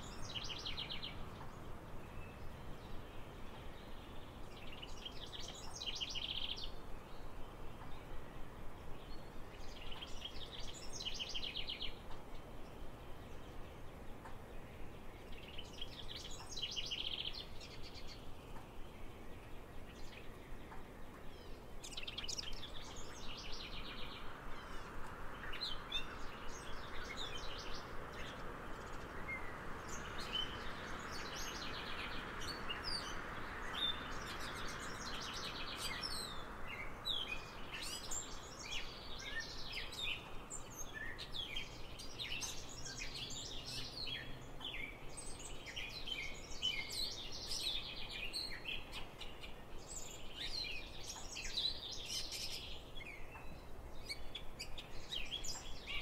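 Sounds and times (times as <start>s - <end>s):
soft outdoor hiss: 0.0s - 56.0s
songbirds chirping and trilling: 0.0s - 56.0s.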